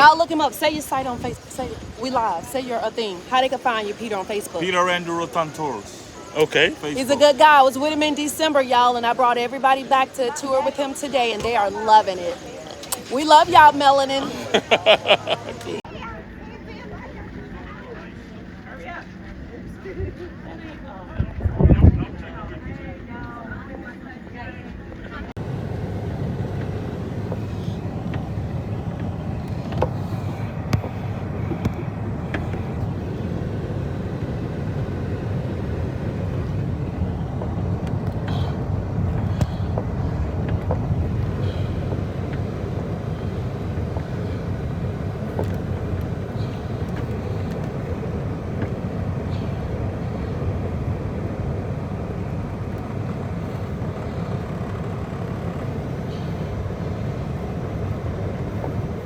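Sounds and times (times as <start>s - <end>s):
engine and tyre rumble: 0.0s - 59.0s.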